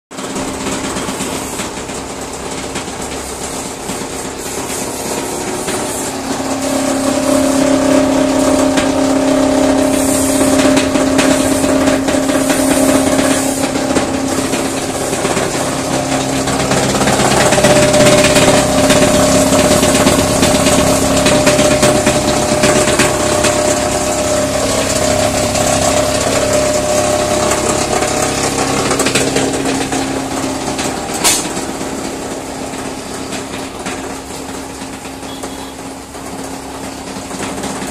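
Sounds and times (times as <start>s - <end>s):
machine hum: 0.1s - 37.9s.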